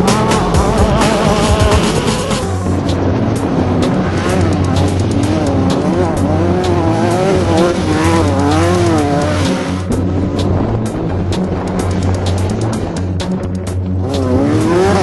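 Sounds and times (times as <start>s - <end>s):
race vehicle engine revving: 0.0s - 15.0s.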